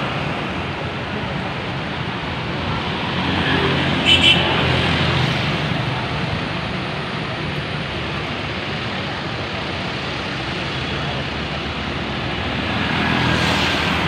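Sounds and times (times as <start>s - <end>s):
tyres on road: 0.0s - 14.0s
vehicle engines: 0.0s - 14.0s.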